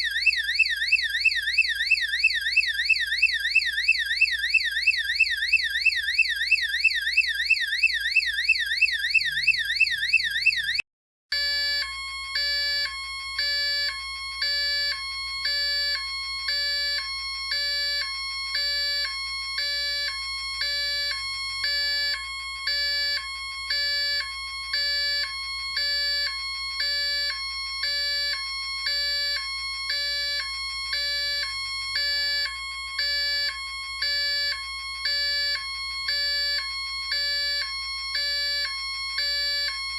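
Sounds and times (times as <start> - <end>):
hi-lo siren: 0.0 - 39.9
siren in yelp mode: 0.0 - 39.9.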